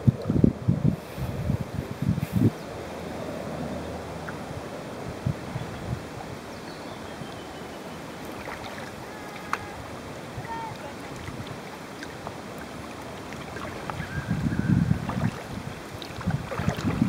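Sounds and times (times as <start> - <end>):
water around a kayak: 0.0 - 17.0
wind: 0.0 - 17.0.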